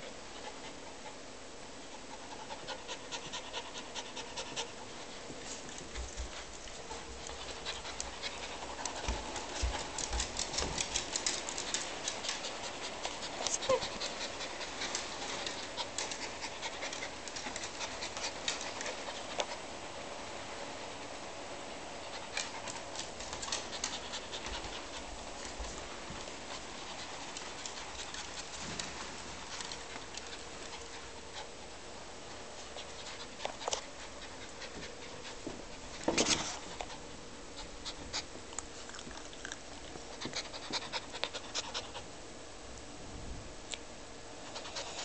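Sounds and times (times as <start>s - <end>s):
small dog panting rapidly: 0.0s - 19.7s, 22.1s - 38.5s, 40.0s - 42.1s, 44.5s - 45.0s.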